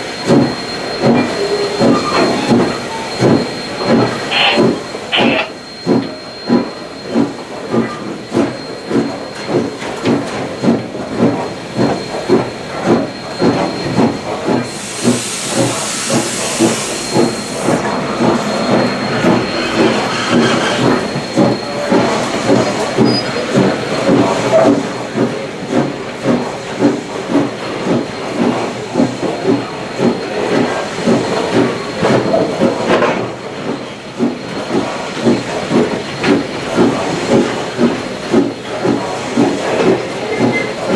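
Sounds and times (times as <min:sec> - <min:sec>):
steam hissing: 0:00.0 - 0:09.8, 0:10.4 - 0:40.9
steam locomotive exhaust chuffs: 0:00.0 - 0:40.9.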